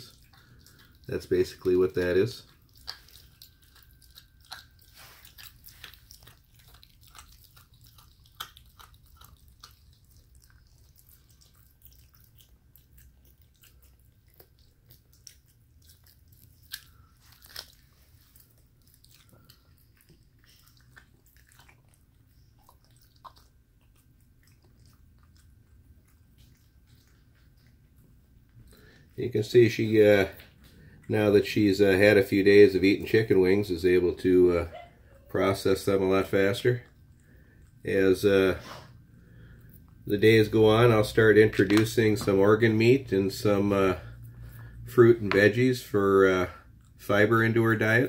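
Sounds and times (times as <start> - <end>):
puppy chewing and crunching bones: 0.0 - 48.0.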